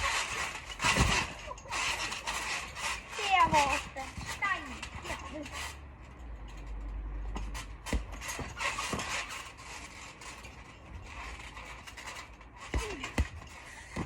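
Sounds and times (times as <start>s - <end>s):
landing thumps: 0.0s - 5.7s, 7.3s - 14.0s
trampoline springs creaking: 0.0s - 14.0s.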